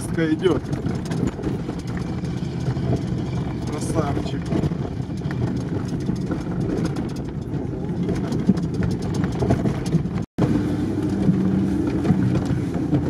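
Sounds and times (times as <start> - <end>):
small rattles and knocks: 0.0 - 10.3, 11.1 - 13.0
vehicle engine and road noise: 0.0 - 13.0.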